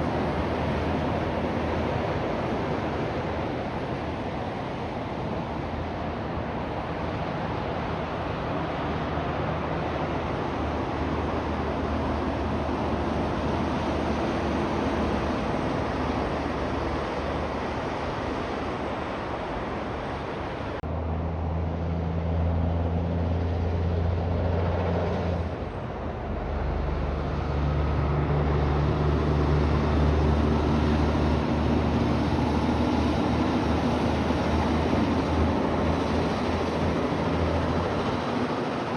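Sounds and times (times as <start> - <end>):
deep diesel engine drone: 0.0 - 38.9
tyre and traffic noise: 0.0 - 38.9.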